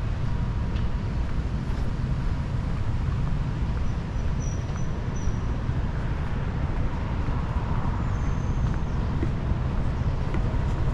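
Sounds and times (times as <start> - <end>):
city traffic rumble: 0.0 - 10.9.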